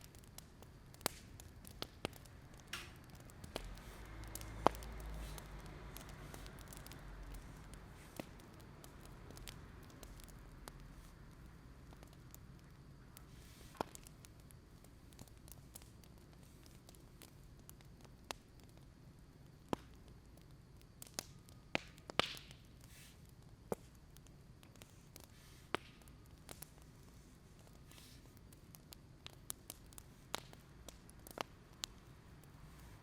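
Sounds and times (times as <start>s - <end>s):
fire pops and crackles: 0.0s - 33.0s
wood fire rumbling: 0.0s - 33.0s.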